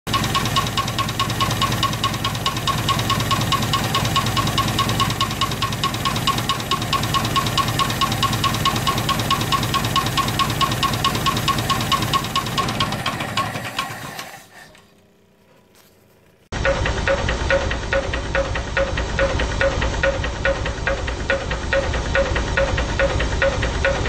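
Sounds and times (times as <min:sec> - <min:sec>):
sharp engine knock: 0:00.1 - 0:14.4, 0:16.6 - 0:24.0
engine running: 0:00.1 - 0:24.0.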